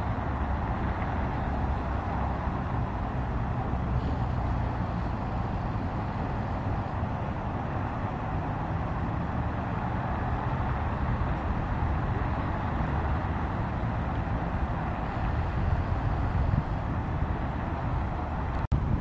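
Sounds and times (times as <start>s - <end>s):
moving vehicle rumble and hiss: 0.0s - 19.0s.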